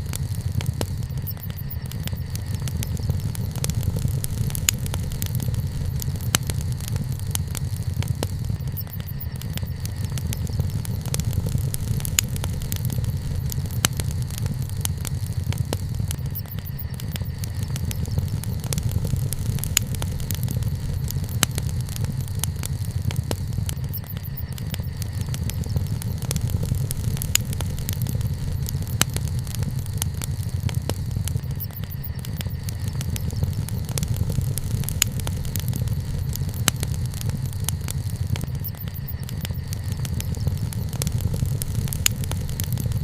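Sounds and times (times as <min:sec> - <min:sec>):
campfire crackling and popping: 0:00.0 - 0:43.0
steady low rumble: 0:00.0 - 0:43.0.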